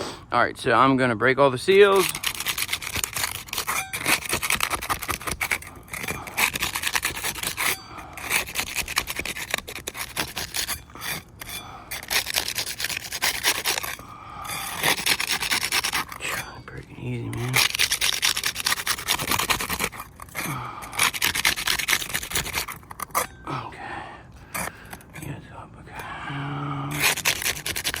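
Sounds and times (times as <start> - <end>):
spatula scraping shingles: 1.7 - 23.6, 24.4 - 28.0.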